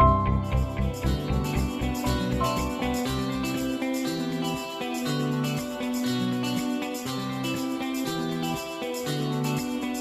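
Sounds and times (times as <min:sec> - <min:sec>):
song with guitar and beat: 0:00.0 - 0:10.0.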